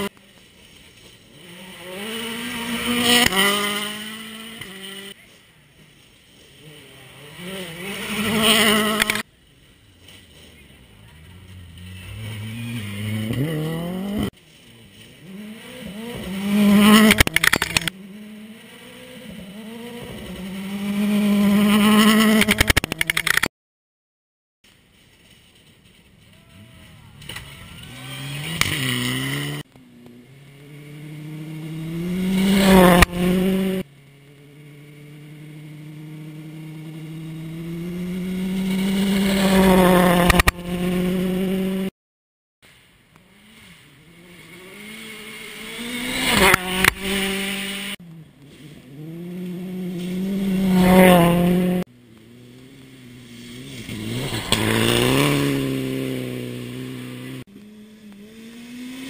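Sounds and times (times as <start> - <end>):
rally cars passing at speed: 0.0 - 5.4, 6.0 - 23.4, 25.0 - 41.9, 42.7 - 59.0.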